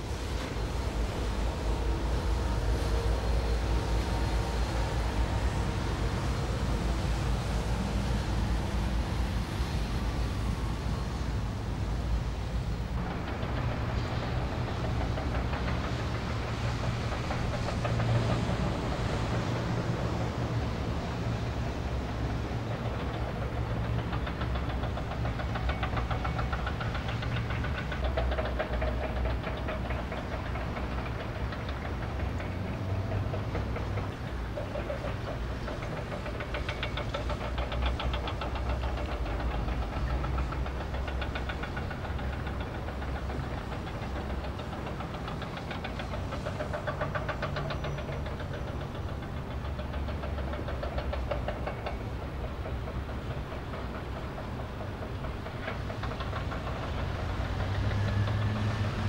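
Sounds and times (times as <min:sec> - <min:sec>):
engine running with rattling knock: 0:00.0 - 0:59.0.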